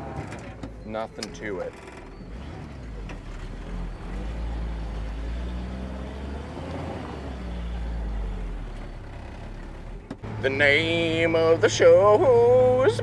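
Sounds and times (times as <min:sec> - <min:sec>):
truck engine under load: 0:00.0 - 0:13.0.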